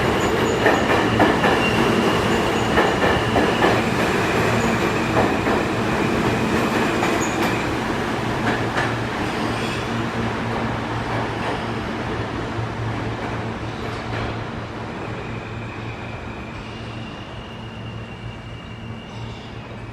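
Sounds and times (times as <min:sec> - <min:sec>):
subway train rumble: 0:00.0 - 0:19.9.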